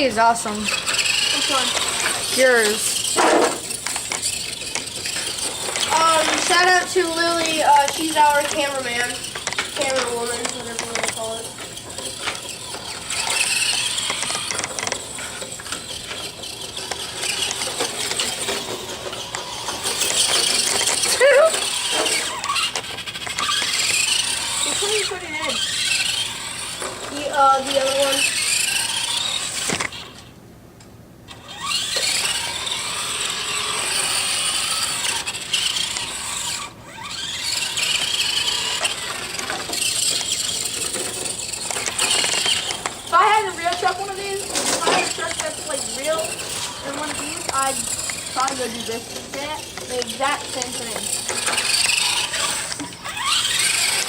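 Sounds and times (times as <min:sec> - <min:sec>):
rc car motor whirring: 0:00.0 - 0:30.4, 0:31.3 - 0:54.0
small clicks and crunches: 0:00.0 - 0:30.9, 0:33.9 - 0:54.0.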